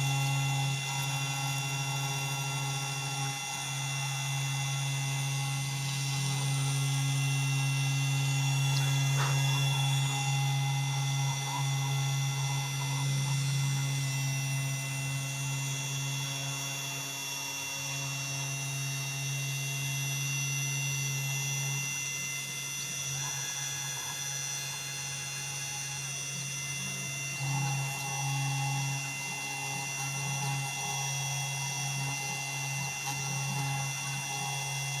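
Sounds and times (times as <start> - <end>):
router motor hum: 0.0 - 35.0.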